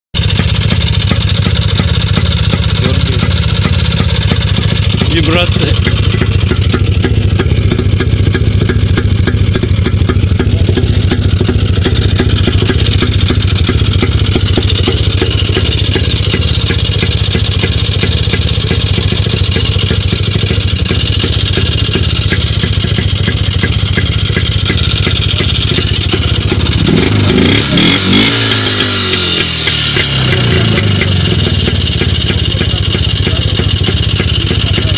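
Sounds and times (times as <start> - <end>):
motorcycle engine knocking: 0.1 - 34.9.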